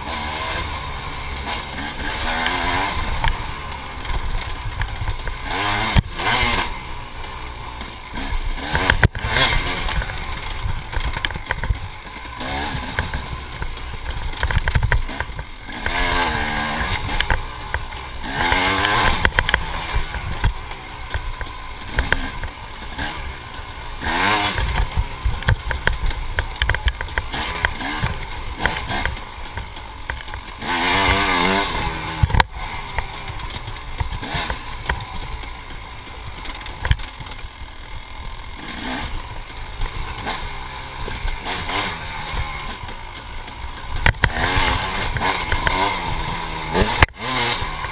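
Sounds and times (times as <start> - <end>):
dirt bike engine revving: 0.0 - 47.9
steady riding rumble: 0.0 - 47.9.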